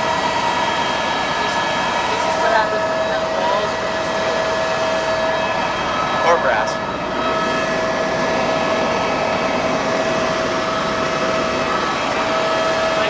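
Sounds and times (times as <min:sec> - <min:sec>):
constant whine: 0:00.0 - 0:13.0
helicopter engine and rotor noise: 0:00.0 - 0:13.0.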